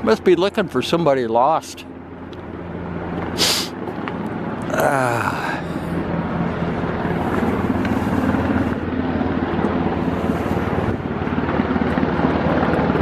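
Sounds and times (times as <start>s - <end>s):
helicopter engine hum: 0.0s - 13.0s
helicopter rotor blades chopping: 0.0s - 13.0s.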